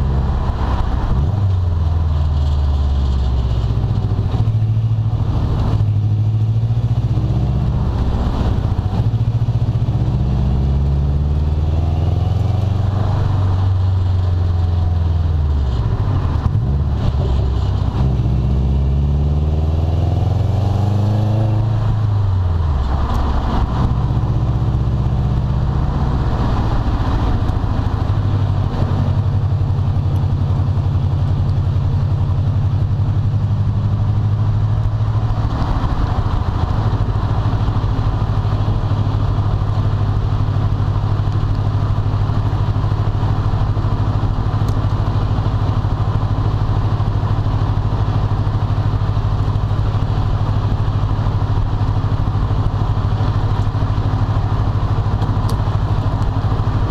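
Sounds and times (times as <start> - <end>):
car engine running: 0.0 - 56.9.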